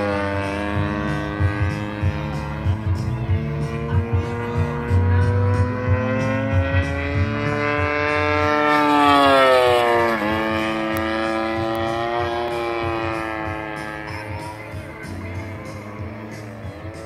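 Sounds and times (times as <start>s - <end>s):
model plane engine passing: 0.0s - 17.0s.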